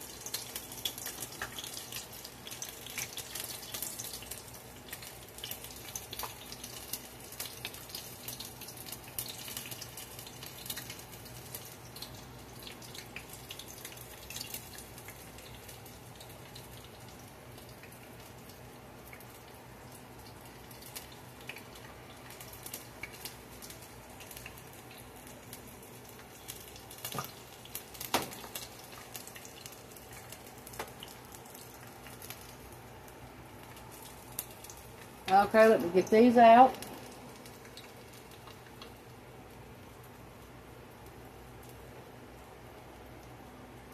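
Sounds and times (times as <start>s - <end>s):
oil crackling while deep-frying: 0.0s - 43.9s.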